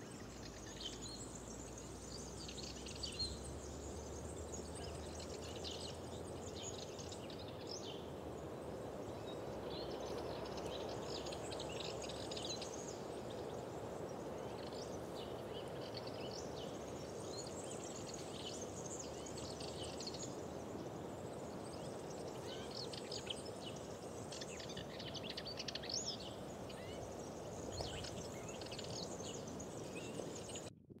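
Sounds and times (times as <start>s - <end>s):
small birds chirping: 0.0s - 30.7s.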